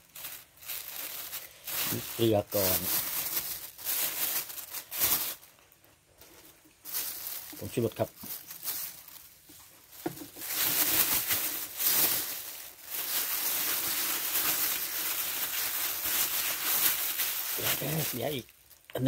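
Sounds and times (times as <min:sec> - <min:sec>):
plastic bag rustling and crinkling: 0:00.0 - 0:19.0.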